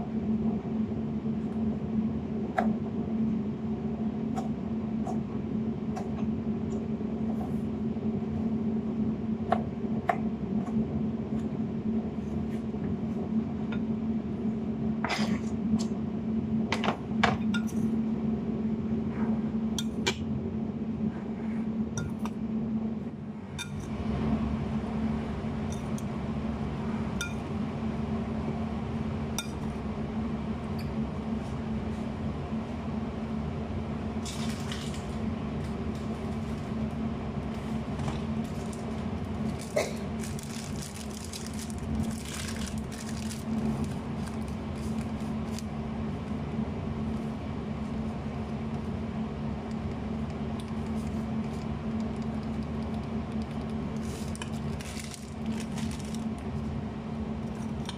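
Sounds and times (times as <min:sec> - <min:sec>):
steady hum: 0:00.0 - 0:57.9.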